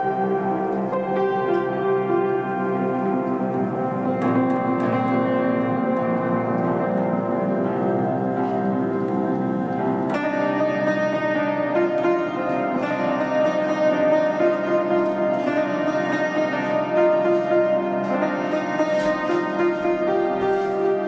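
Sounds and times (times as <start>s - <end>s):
upright piano playing fast figures: 0.0s - 21.0s.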